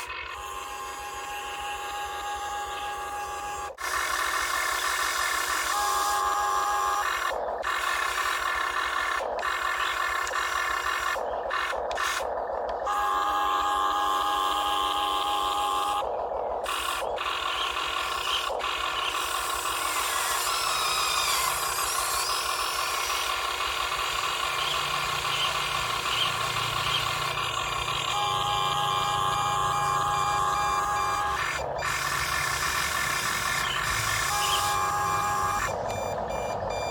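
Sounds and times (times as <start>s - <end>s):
toy excavator motors whining: 0.0s - 36.9s.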